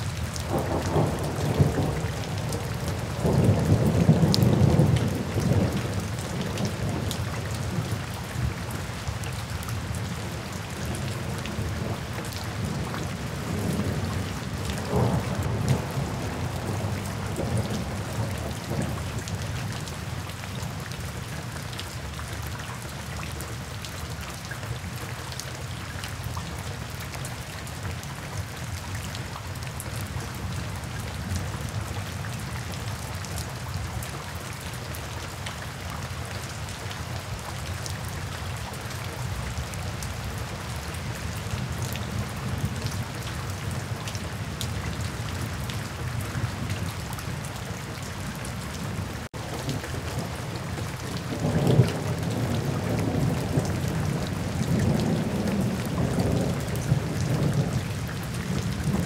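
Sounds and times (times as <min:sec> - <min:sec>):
rain drops splashing: 0:00.0 - 0:59.0.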